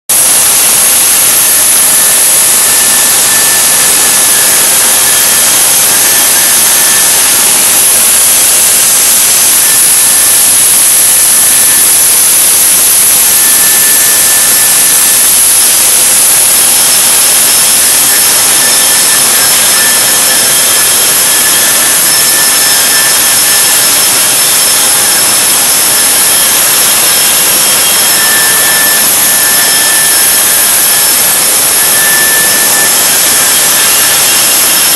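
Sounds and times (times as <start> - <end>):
faint high machine whines: 0.1 - 34.9
loud steady machine noise: 0.1 - 34.9.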